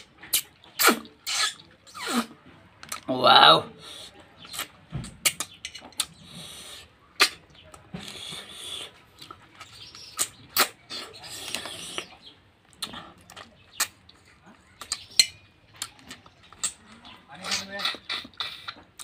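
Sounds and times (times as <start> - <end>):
wet mouth clicks: 0.0 - 2.3, 3.9 - 14.2, 14.8 - 19.0
chewing and lip-smacking: 0.0 - 3.1, 3.9 - 19.0.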